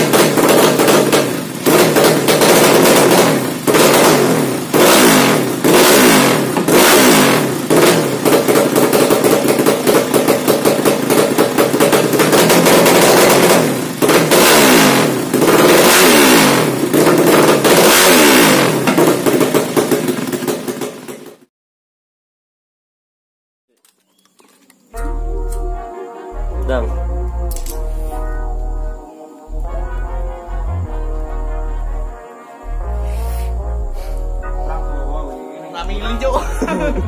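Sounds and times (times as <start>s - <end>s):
motorcycle engine revving: 0.0s - 21.5s, 25.0s - 37.0s.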